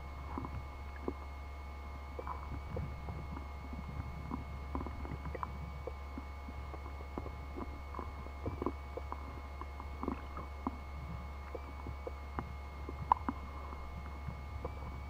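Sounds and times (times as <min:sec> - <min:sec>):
faint high whine: 0:00.0 - 0:15.0
underwater low rumble: 0:00.0 - 0:15.0.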